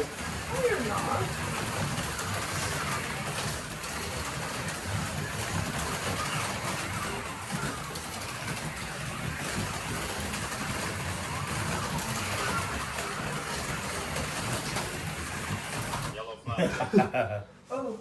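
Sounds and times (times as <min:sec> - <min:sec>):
slot car motors whirring: 0:00.0 - 0:16.2.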